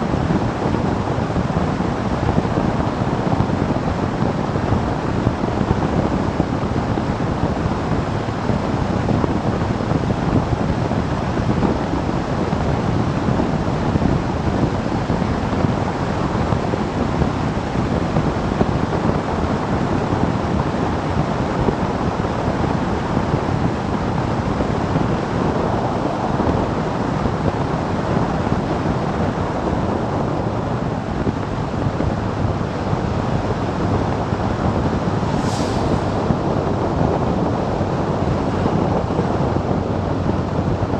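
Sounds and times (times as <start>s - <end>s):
motorcycle engine and road noise: 0.0s - 40.9s
wind buffeting microphone: 0.0s - 40.9s.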